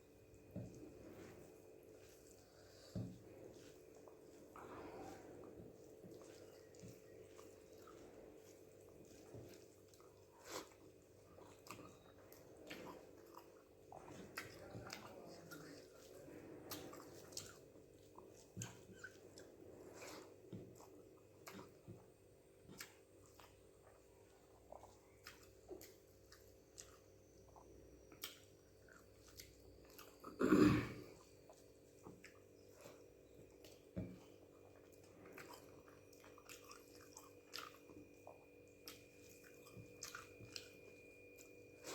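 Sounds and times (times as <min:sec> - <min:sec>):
person chewing: 0:00.2 - 0:41.9.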